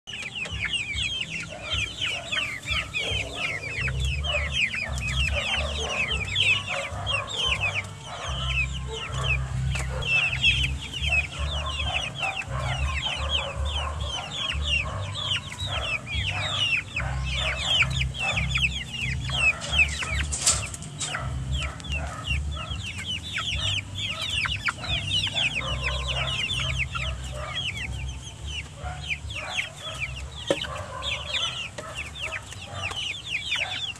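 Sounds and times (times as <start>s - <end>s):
chickens peeping and clucking: 0.0s - 33.9s.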